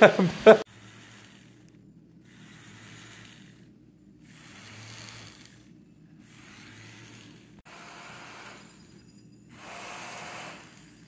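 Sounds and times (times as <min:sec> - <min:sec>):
low steady hum: 0:00.0 - 0:11.0
small fan motor whir: 0:00.0 - 0:11.0.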